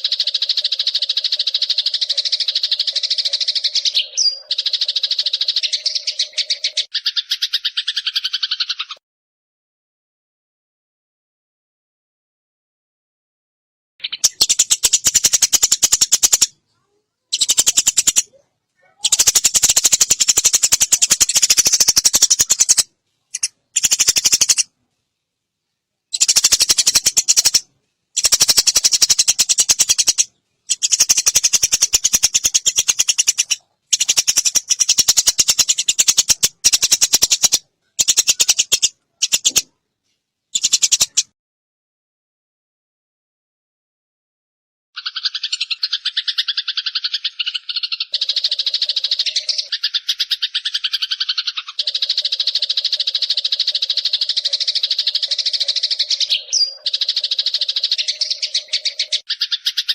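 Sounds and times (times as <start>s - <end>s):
sparrow chattering calls: 0.0s - 9.0s, 14.0s - 16.6s, 17.3s - 24.7s, 26.1s - 39.7s, 40.6s - 41.3s, 45.0s - 59.9s.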